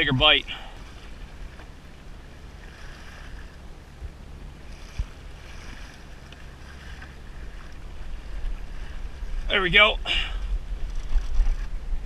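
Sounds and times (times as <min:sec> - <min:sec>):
faint water noise: 0:00.0 - 0:12.0
wind rumble on microphone: 0:00.0 - 0:12.0.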